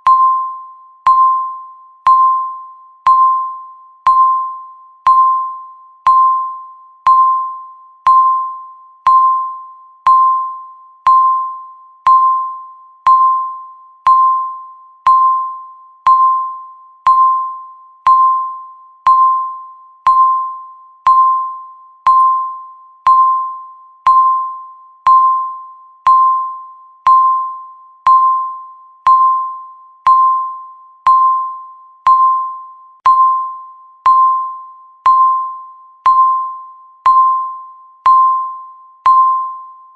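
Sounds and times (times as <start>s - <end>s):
electronic timer beeps: 0.0s - 39.9s.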